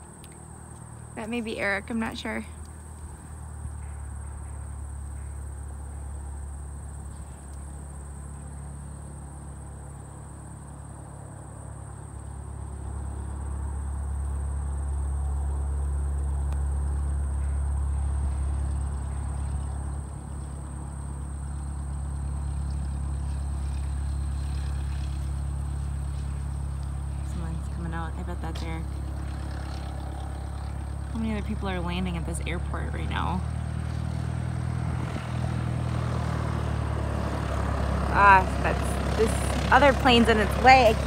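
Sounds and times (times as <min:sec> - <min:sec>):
insects trilling: 0:00.0 - 0:41.0
propeller airplane engine humming: 0:00.0 - 0:41.0.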